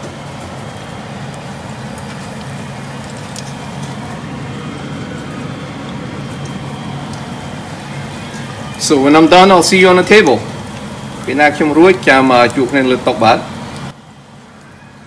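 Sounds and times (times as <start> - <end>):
dough sizzling in hot oil: 0.0 - 15.0
low steady hum: 0.0 - 15.0.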